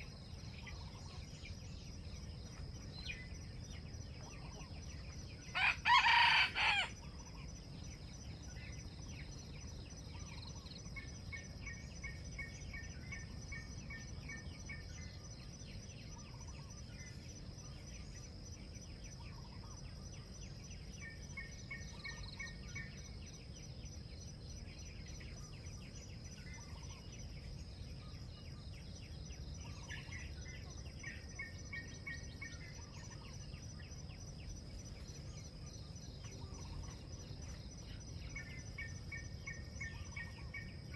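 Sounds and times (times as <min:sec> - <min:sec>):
low background noise: 0:00.0 - 0:40.9.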